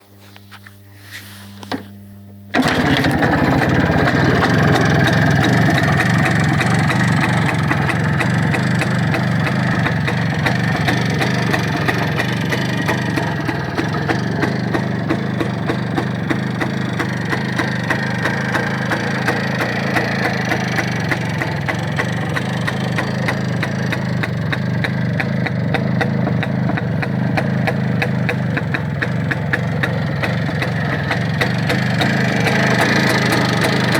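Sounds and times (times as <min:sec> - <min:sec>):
motorcycle engine idling: 0:02.5 - 0:33.9.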